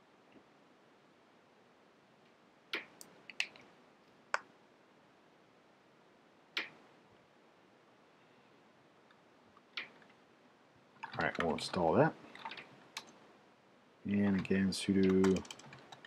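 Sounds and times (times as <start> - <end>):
faint room hiss: 0.0 - 16.0.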